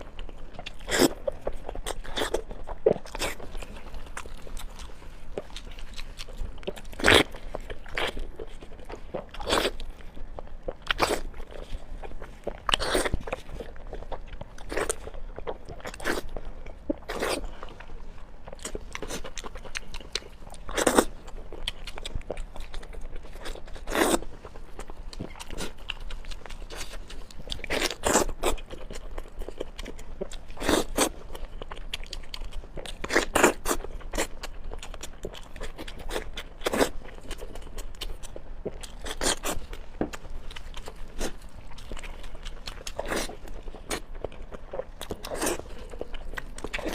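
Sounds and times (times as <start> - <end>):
crunchy chewing: 0.0 - 46.9.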